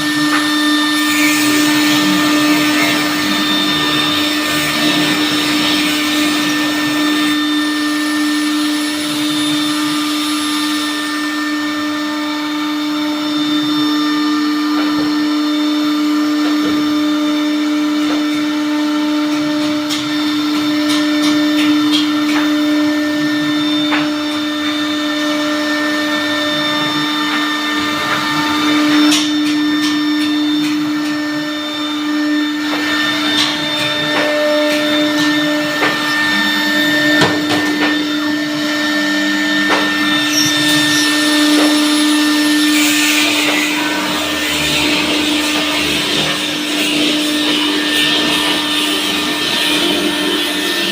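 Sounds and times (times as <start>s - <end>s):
saw motor whining: 0.0s - 50.9s.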